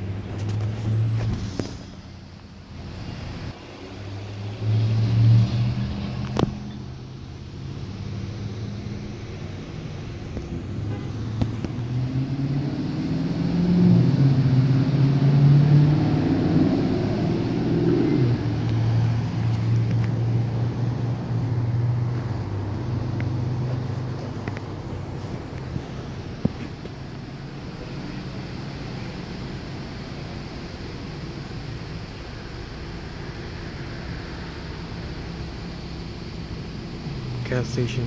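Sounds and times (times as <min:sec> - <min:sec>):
car engines and road traffic: 0:00.0 - 0:38.0.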